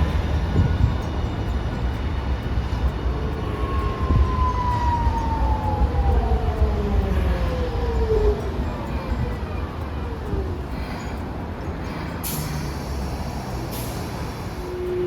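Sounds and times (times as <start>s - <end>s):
streetcar rumble: 0.0s - 15.0s.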